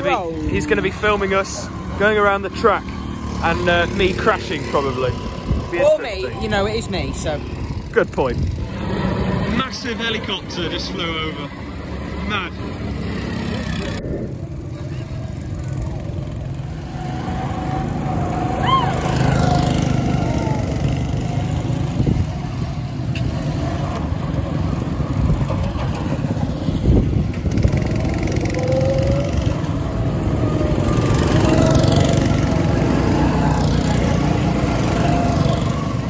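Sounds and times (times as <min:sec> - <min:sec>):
go-kart engines revving: 0:00.0 - 0:36.0.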